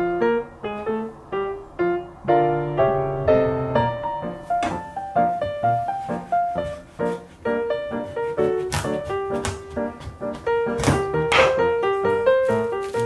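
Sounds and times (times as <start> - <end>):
light piano melody: 0.0 - 13.0.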